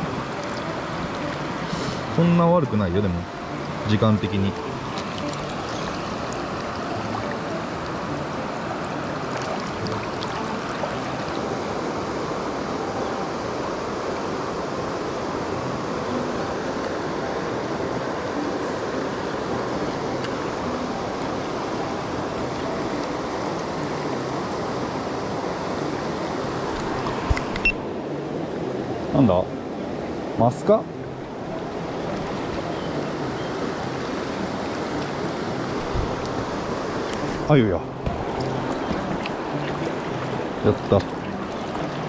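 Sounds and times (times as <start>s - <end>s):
river rushing: 0.0s - 42.0s.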